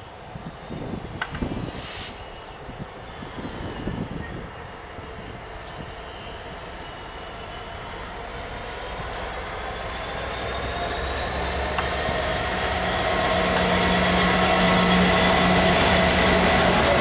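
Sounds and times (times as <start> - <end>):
diesel locomotive engine running: 0.8 - 17.0.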